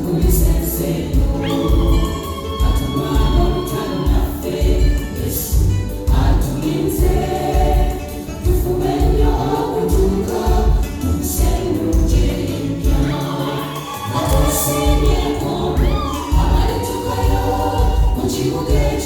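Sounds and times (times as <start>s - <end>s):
gospel choir singing: 0.0s - 19.0s
music with bass beat: 0.0s - 19.0s.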